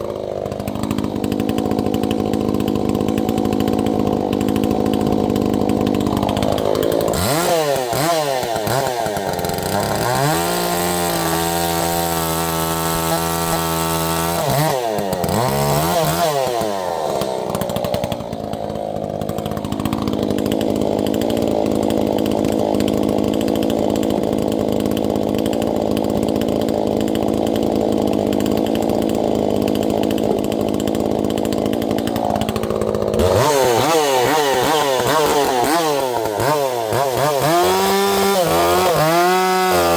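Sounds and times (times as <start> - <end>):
chainsaw running at high speed: 0.0 - 39.9.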